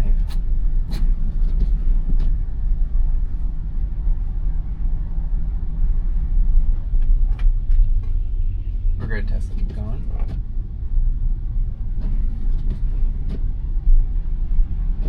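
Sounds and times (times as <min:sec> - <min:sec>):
tyre and road rumble: 0:00.0 - 0:15.0.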